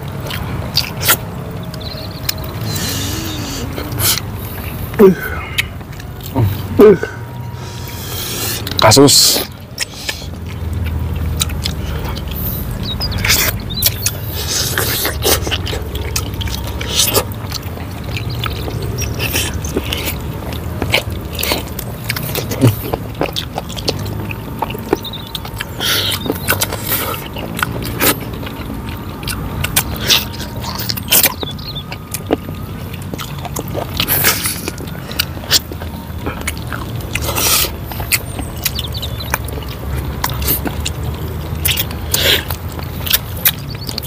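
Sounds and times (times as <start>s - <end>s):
wet lip smacks and mouth clicks: 0.0s - 6.8s, 7.7s - 44.0s
people chewing and biting food: 0.0s - 44.0s
steady low rumble: 0.0s - 44.0s.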